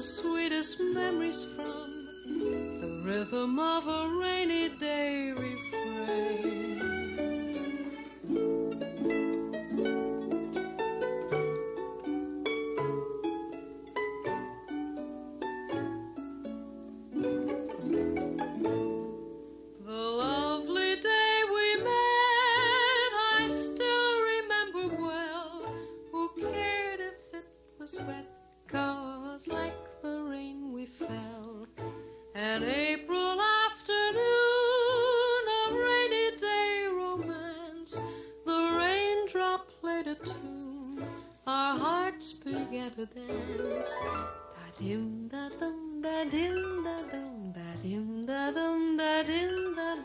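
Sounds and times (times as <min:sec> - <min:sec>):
orchestral pop music: 0:00.0 - 0:27.2, 0:31.0 - 0:50.0.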